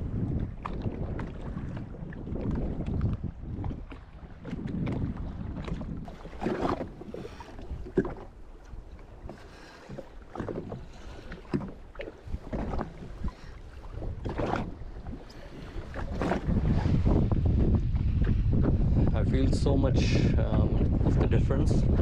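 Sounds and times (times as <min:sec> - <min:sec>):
waves lapping against hull: 0:00.0 - 0:22.0
wind buffeting microphone: 0:00.0 - 0:22.0.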